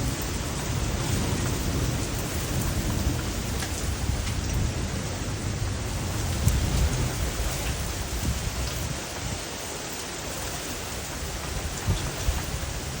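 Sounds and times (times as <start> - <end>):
heavy rain: 0.0 - 13.0
wind: 0.0 - 13.0.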